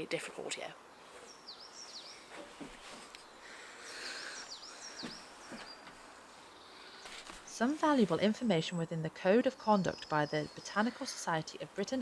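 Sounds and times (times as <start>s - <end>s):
faint outdoor background noise: 0.0s - 12.0s
small birds chirping: 0.3s - 12.0s.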